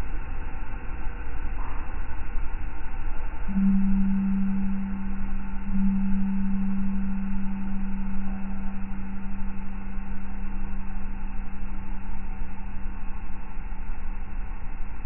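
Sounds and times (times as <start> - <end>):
deep hum tone: 0.0 - 15.0.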